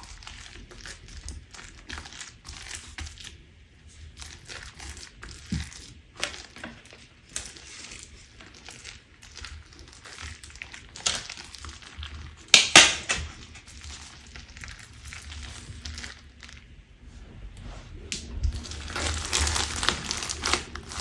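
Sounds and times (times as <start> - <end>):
crunchy slime crackling: 0.0 - 17.0, 18.0 - 21.0.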